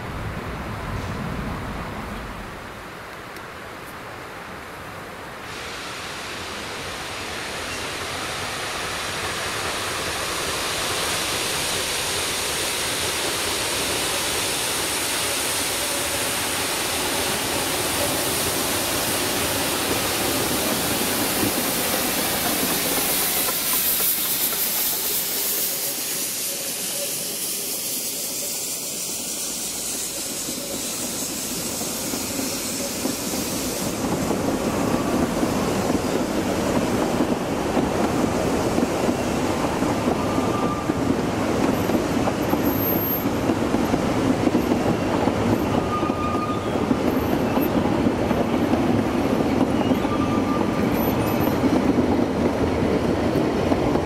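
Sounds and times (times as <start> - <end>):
steam hissing: 5.4 - 54.0
steam locomotive running: 5.5 - 54.0.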